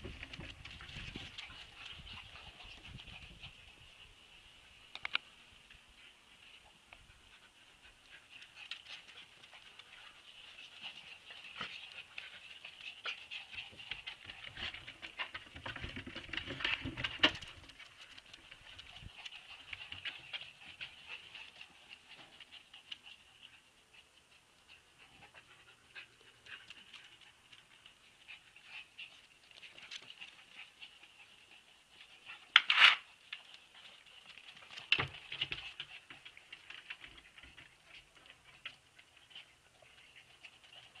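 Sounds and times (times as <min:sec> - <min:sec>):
puppies making small sounds: 0:00.0 - 0:41.0.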